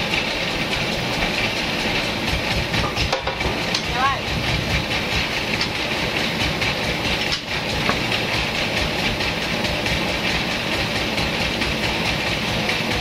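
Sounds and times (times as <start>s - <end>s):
band sawmill clattering: 0.0s - 13.0s.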